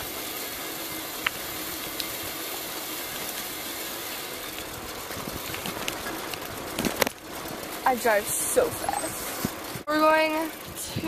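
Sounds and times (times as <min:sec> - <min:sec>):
bicycle tyres on asphalt: 0:00.0 - 0:11.0.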